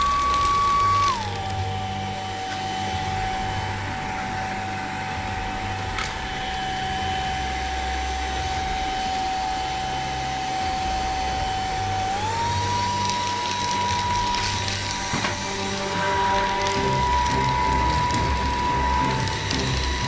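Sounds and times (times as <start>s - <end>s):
handheld vacuum cleaner whining: 0.0s - 20.0s.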